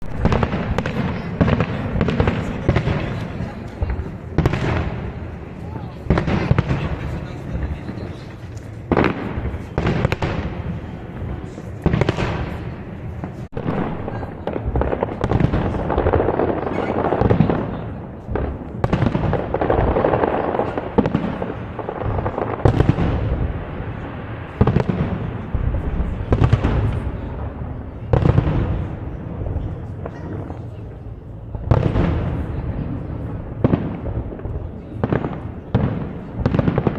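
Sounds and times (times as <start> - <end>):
fireworks bangs: 0.0 - 36.9
rumbling echoing din: 0.0 - 36.9.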